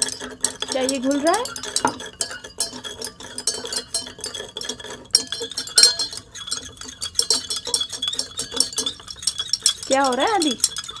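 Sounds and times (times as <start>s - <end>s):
stirrers clinking on glass: 0.0s - 11.0s.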